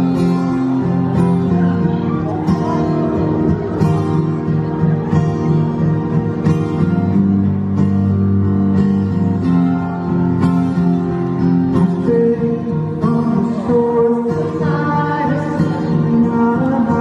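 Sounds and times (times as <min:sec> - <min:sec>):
amplified acoustic guitar strumming: 0:00.0 - 0:17.0.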